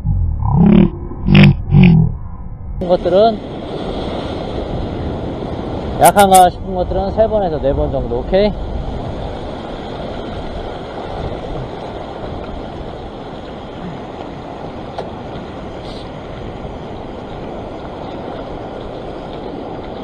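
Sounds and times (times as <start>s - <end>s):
sea surf washing over rocks: 2.8s - 20.0s.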